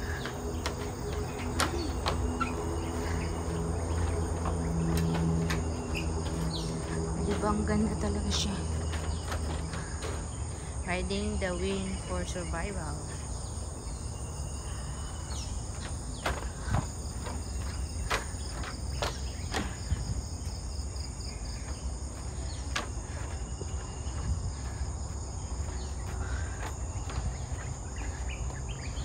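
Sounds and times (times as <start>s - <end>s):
forest insects chorus: 0.0s - 29.0s.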